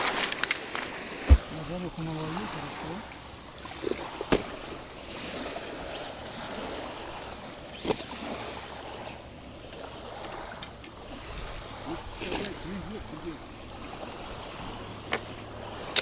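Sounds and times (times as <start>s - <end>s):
water lapping at shore: 0.0s - 16.0s.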